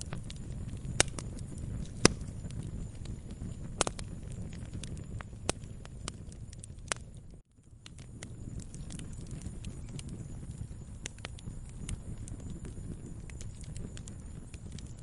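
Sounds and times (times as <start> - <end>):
campfire crackling: 0.0 - 15.0
sharp pops of burning wood: 0.0 - 15.0.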